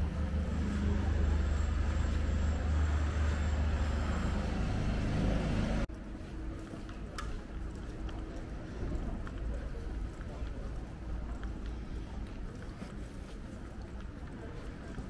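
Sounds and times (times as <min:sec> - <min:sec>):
town street background noise: 0:00.0 - 0:15.0.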